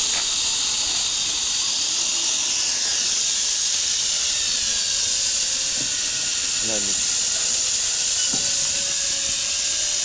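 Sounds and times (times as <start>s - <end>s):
quadcopter motors whirring: 0.0s - 10.0s.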